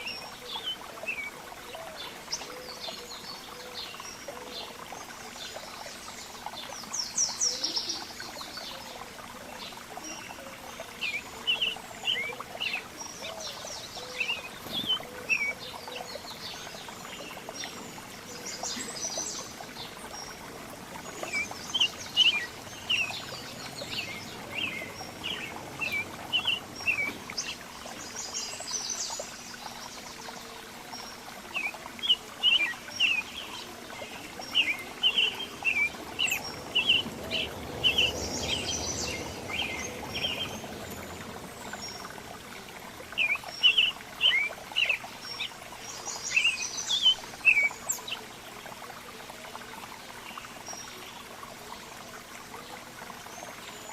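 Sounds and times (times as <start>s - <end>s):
songbirds chirping: 0.0s - 53.9s.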